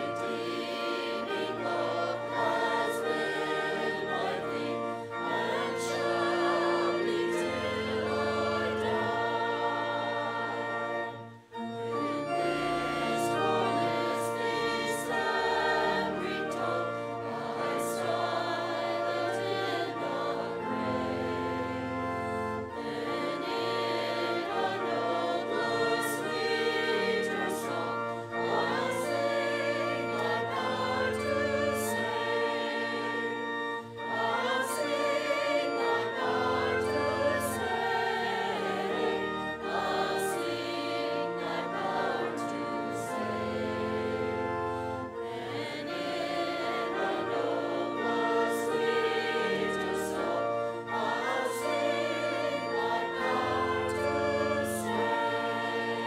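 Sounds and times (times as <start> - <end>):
congregation and choir singing hymn: 0.0 - 56.0
organ accompaniment: 0.0 - 56.0.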